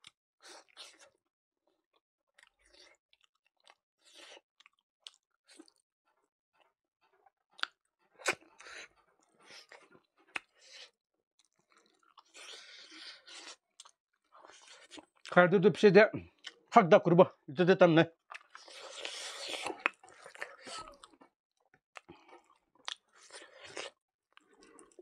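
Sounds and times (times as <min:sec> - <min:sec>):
chewing food: 0:01.9 - 0:15.4, 0:18.2 - 0:25.0.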